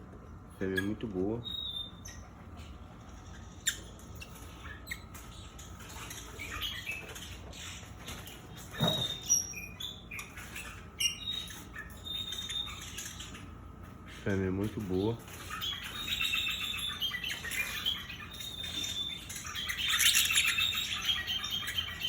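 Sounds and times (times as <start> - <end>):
birds squeaky chirps: 0.3 - 22.0.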